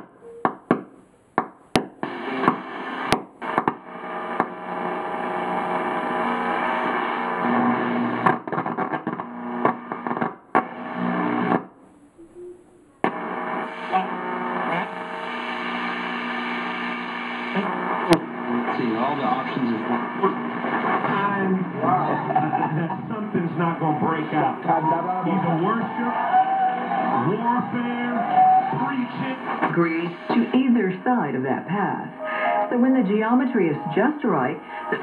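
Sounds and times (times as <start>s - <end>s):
radio static and crackles: 1.7s - 35.0s
snatches of radio broadcast: 1.7s - 35.0s.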